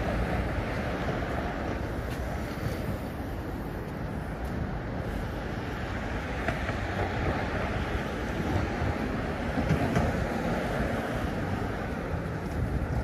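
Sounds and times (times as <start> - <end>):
road traffic roar: 0.0 - 13.0
wind buffeting microphone: 0.0 - 13.0.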